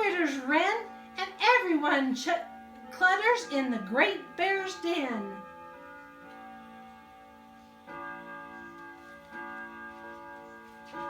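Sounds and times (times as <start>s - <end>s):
soft bell-like chords music: 0.0s - 11.0s.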